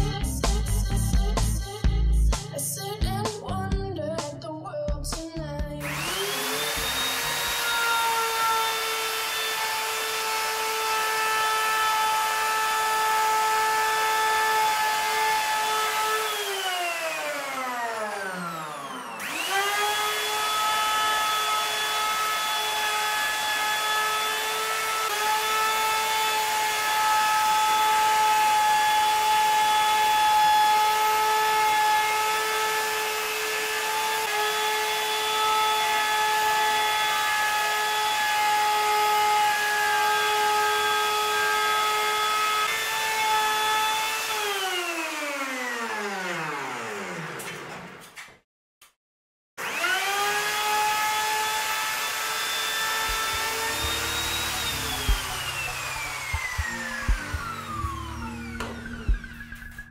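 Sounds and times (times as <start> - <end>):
electric router whining: 5.8 - 48.0, 49.6 - 59.9.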